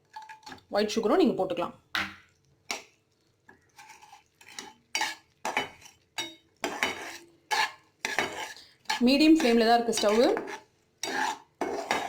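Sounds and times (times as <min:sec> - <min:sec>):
spoon scraping a pan: 0:00.0 - 0:00.7, 0:02.6 - 0:12.0.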